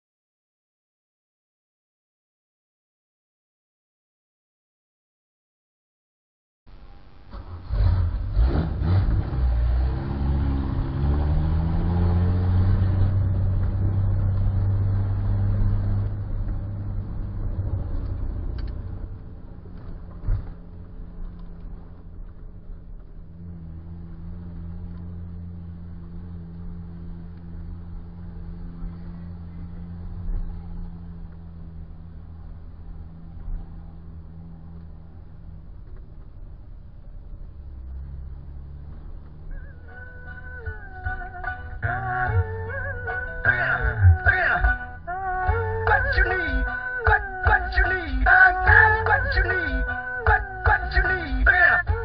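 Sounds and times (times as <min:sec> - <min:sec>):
car engine starting and idling: 0:06.7 - 0:52.0.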